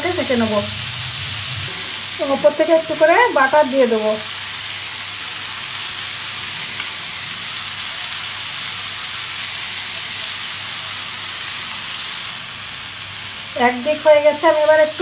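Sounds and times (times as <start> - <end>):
kebabs sizzling on a griddle: 0.0 - 15.0.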